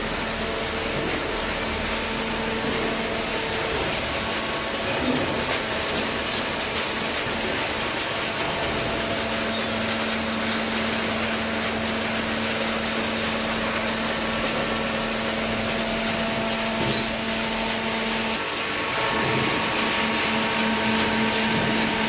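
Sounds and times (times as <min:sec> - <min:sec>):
hydraulic baler humming: 0:00.0 - 0:22.0.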